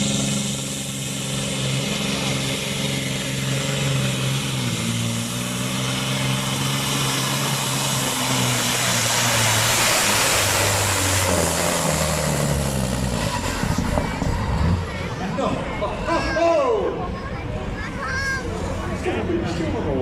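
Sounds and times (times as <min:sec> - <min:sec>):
rush of noise: 0:00.0 - 0:20.0
truck engine running hard: 0:00.0 - 0:20.0.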